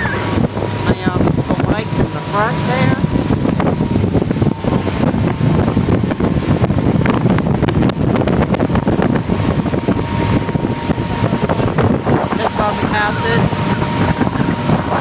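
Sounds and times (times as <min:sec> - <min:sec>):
churning wake: 0:00.0 - 0:15.0
motorboat engine: 0:00.0 - 0:15.0
wind buffeting microphone: 0:00.0 - 0:15.0.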